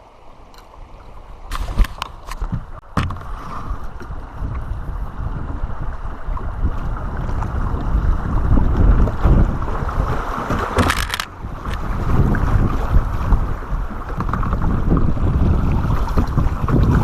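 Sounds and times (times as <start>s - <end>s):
water rushing around kayak: 0.0s - 17.0s
wind buffeting microphone: 0.0s - 17.0s.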